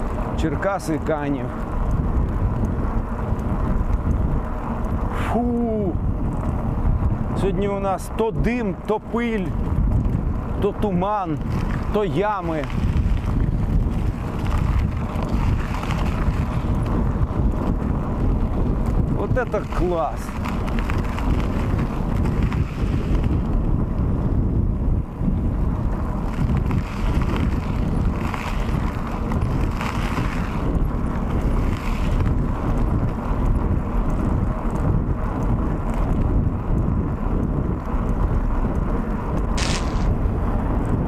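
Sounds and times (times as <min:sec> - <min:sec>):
bike tyres rolling on asphalt: 0:00.0 - 0:41.0
wind noise on microphone: 0:00.0 - 0:41.0.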